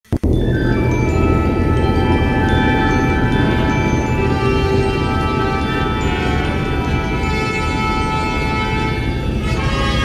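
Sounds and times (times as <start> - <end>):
held ringing tones: 0.2 - 9.7
deep low rumble: 0.2 - 10.0
sharp musical hit: 0.2 - 10.0.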